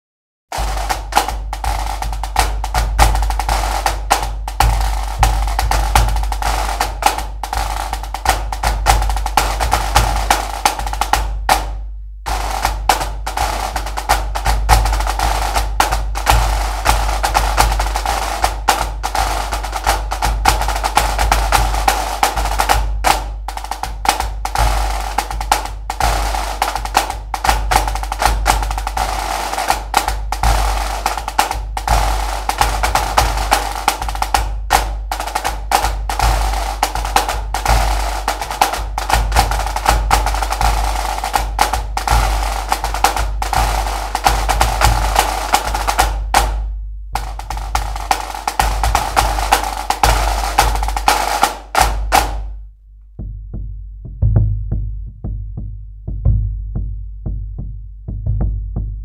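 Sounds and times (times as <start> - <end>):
music with fast drumming: 0.5 - 52.6, 53.2 - 59.0.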